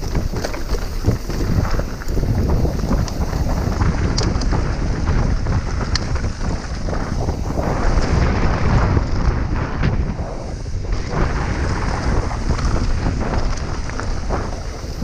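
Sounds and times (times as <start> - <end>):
bike clicking and rattling: 0.0 - 15.0
bike tyres rumbling over gravel: 0.0 - 15.0
wind buffeting microphone: 0.0 - 15.0.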